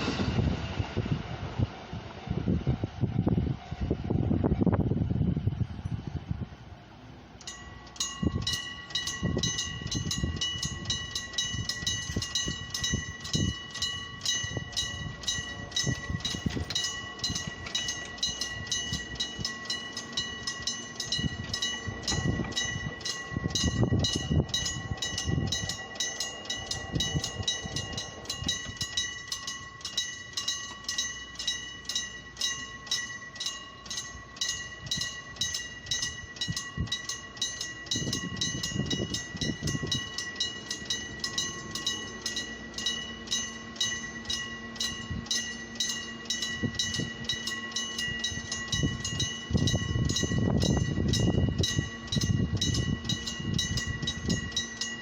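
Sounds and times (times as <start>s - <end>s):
train rumbling past: 0.0s - 55.0s
level crossing warning bell: 7.0s - 55.0s.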